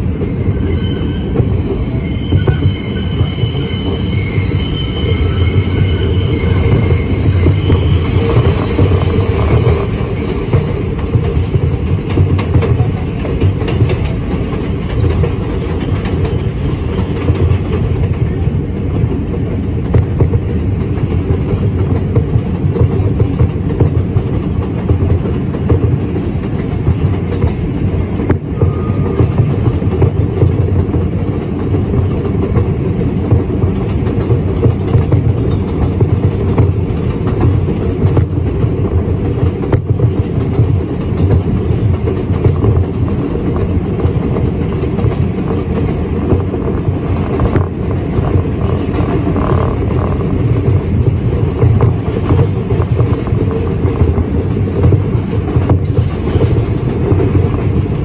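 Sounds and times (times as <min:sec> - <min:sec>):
subway wheels rumbling: 0:00.0 - 0:58.0
wheels clicking over rail joints: 0:06.7 - 0:58.0.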